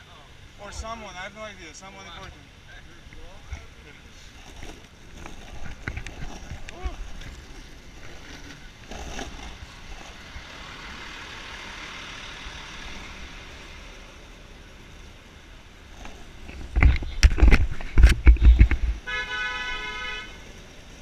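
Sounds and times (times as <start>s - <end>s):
city traffic: 0.0s - 21.0s
skateboard wheels rolling on asphalt: 0.5s - 21.0s.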